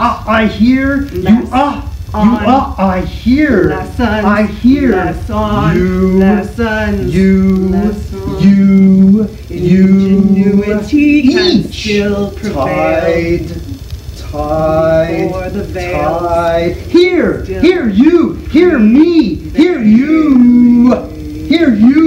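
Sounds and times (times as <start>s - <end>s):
man chanting long notes: 0.0s - 22.0s
higher vocal tones and swoops: 1.2s - 22.0s.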